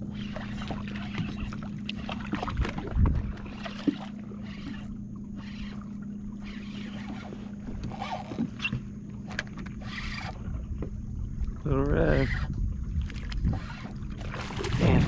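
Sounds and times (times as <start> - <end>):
electric trolling motor humming: 0.0 - 15.0.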